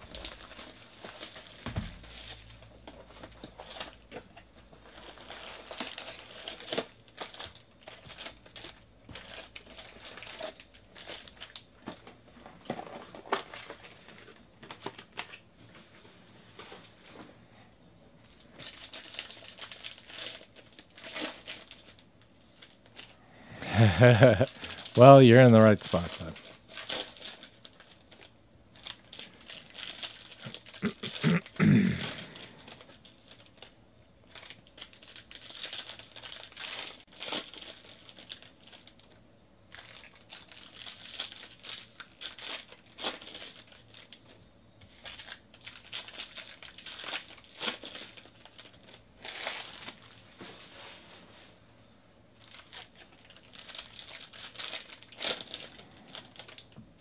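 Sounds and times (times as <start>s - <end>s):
foil wrappers crinkling and tearing: 0.0s - 15.4s, 18.3s - 23.2s, 23.8s - 50.4s, 52.4s - 57.0s.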